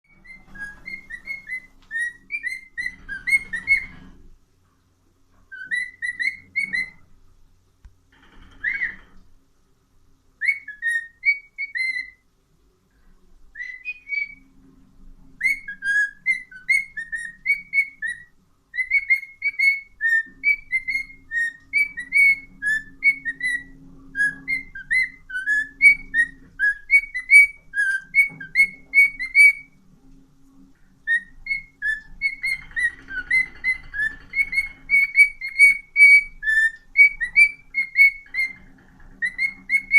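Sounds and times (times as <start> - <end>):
cockatiel whistling: 0.1 - 4.1, 5.5 - 7.0, 8.6 - 9.1, 10.4 - 12.2, 13.5 - 14.5, 15.4 - 29.8, 31.0 - 39.9.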